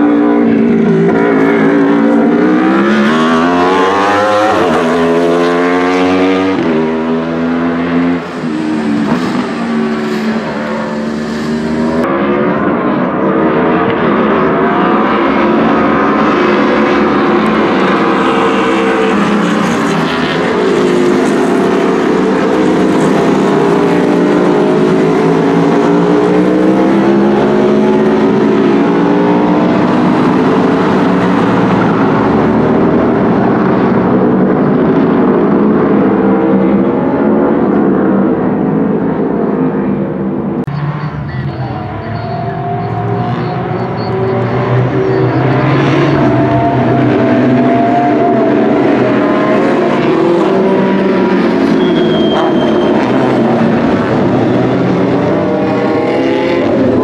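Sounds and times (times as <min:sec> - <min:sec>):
race car accelerating through upshifts: 0:00.0 - 0:41.1, 0:42.4 - 0:57.0
race cars running on track: 0:00.0 - 0:57.0.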